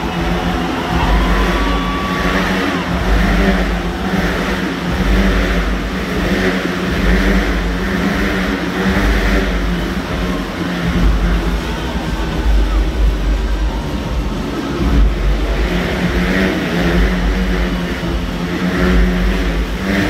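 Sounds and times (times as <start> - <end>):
motorcycles revving high: 0.0 - 20.0.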